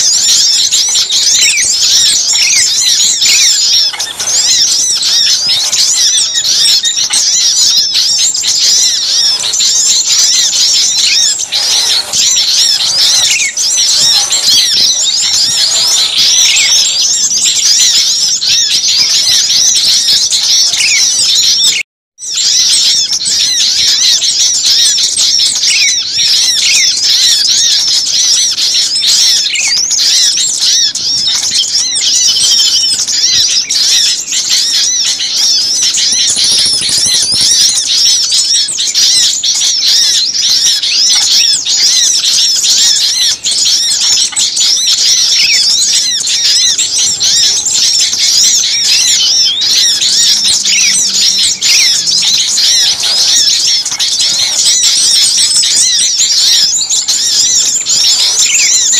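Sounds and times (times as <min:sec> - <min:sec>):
songbirds chirping and twittering: 0:00.0 - 0:58.9.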